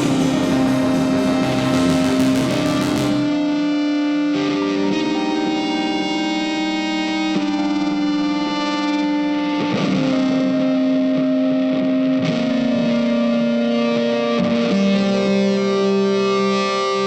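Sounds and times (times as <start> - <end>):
music with long held notes: 0.0 - 17.0.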